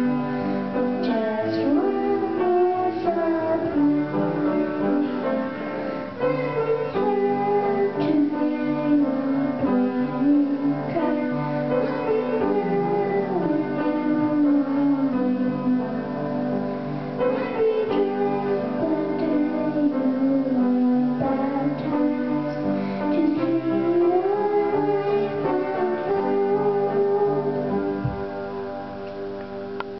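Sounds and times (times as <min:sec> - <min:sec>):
girl singing into a microphone: 0:00.0 - 0:05.3, 0:06.2 - 0:16.6, 0:17.2 - 0:28.2
piano accompaniment: 0:00.0 - 0:29.9.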